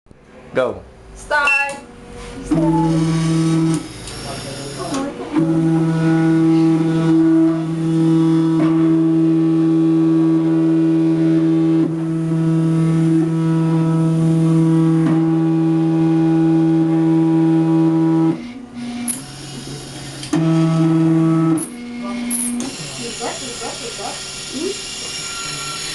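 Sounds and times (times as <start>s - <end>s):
machine motors droning: 1.2s - 25.9s.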